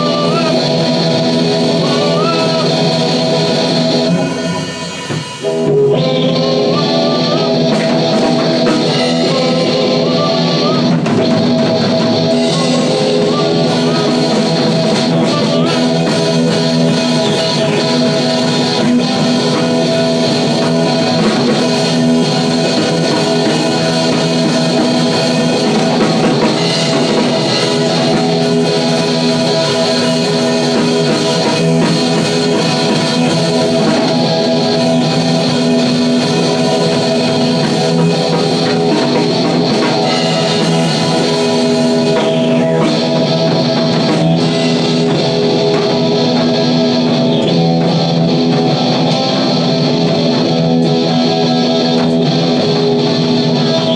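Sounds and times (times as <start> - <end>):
drums: 0.0 - 53.9
electric guitar through an amp: 0.0 - 53.9.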